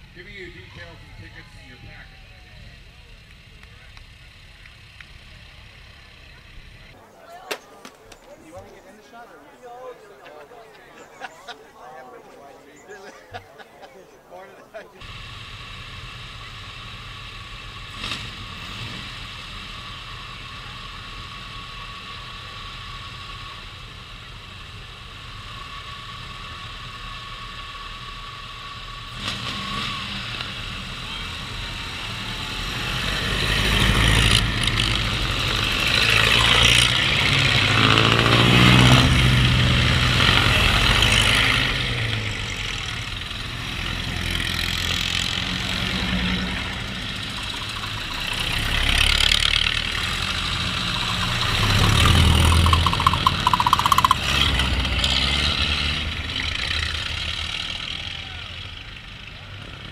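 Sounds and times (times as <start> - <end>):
old car engines running: 0.0 - 8.9, 14.6 - 59.9.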